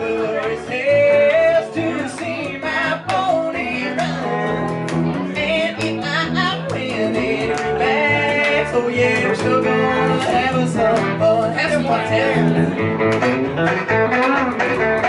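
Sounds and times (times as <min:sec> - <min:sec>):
country band playing: 0:00.0 - 0:15.0
electric guitar: 0:00.0 - 0:15.0.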